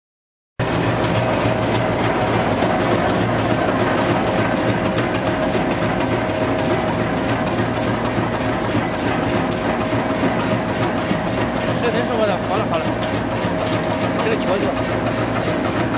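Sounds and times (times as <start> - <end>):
motor and roller hum: 0.6 - 15.9.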